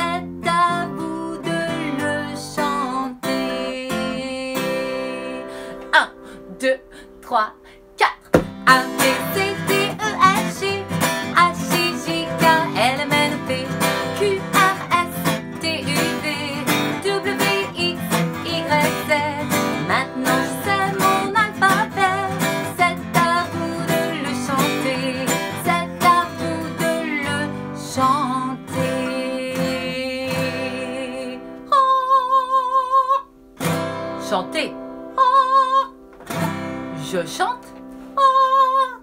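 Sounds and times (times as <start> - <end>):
acoustic guitar strumming: 0.0 - 7.0, 8.3 - 32.4, 33.0 - 38.2
woman singing: 0.0 - 33.3, 34.6 - 36.0, 37.1 - 39.0.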